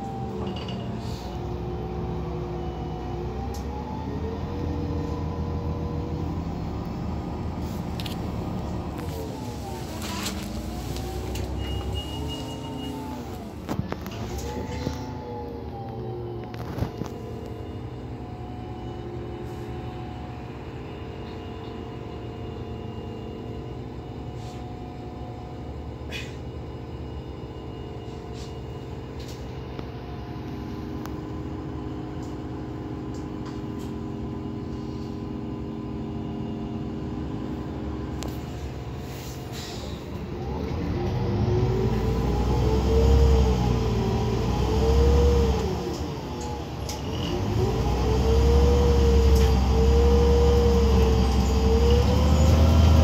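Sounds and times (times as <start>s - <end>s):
bus engine hum: 0.0s - 53.0s
road rumble: 0.0s - 53.0s.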